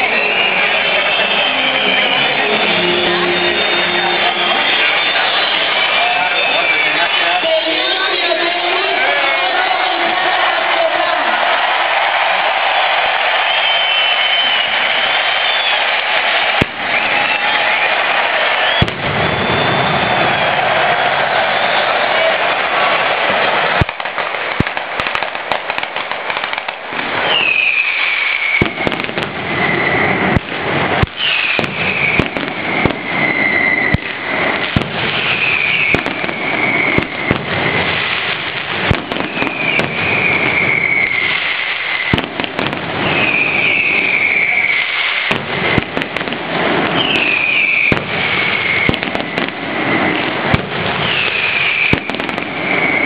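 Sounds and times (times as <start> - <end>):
high falling whistle: 0.0 - 7.4, 12.1 - 22.5, 27.1 - 45.9, 46.8 - 53.0
firecrackers banging and crackling: 0.0 - 53.0.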